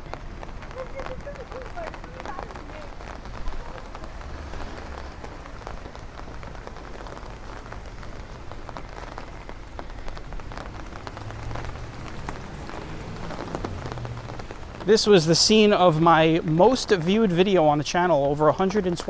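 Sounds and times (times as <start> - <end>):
rain falling on the street: 0.0 - 19.0.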